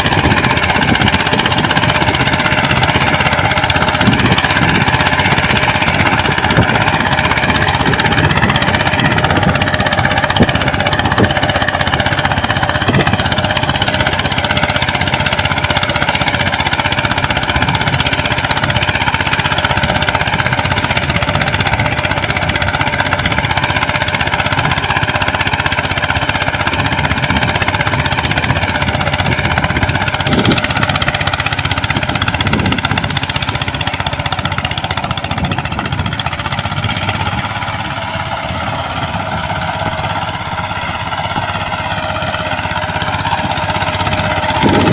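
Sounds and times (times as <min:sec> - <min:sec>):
mini tractor engine chugging: 0:00.0 - 0:44.9.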